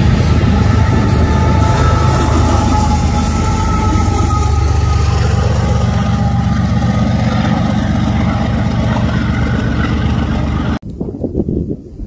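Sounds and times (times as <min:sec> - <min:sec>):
diesel locomotives rumbling: 0:00.0 - 0:10.8.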